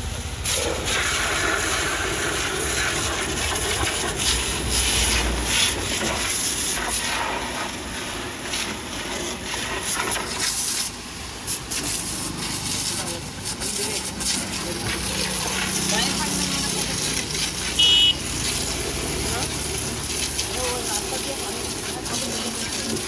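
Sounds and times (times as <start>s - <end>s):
water spraying onto a vehicle: 0.0s - 23.0s.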